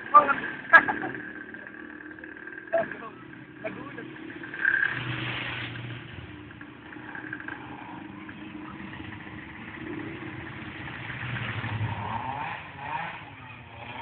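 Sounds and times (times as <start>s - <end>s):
scooter engine running at low revs: 0.0s - 14.0s.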